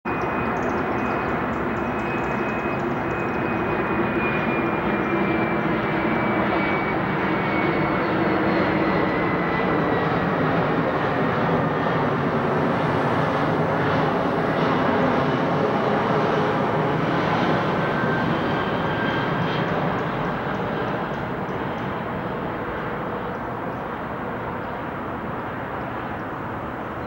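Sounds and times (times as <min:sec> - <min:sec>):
jet airliner flying overhead: 0:00.1 - 0:27.0.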